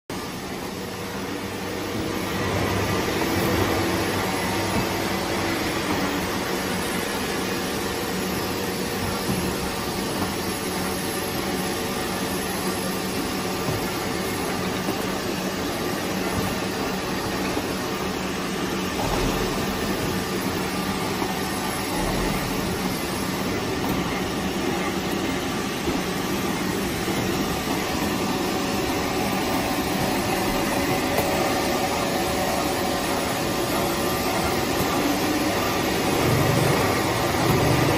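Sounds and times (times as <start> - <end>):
carton machine mechanical din: 0.1 - 37.9.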